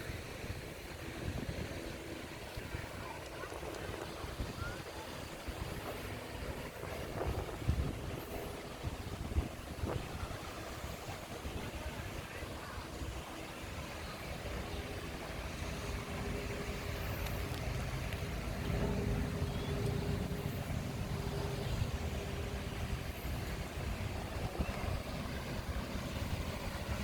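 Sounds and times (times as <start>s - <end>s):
motor engine humming: 0.6s - 27.0s.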